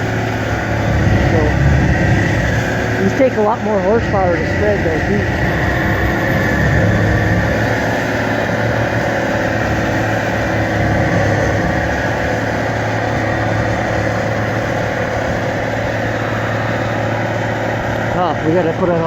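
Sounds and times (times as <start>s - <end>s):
bale processor shredding: 0.0s - 19.0s
tractor diesel engine under load: 0.0s - 19.0s.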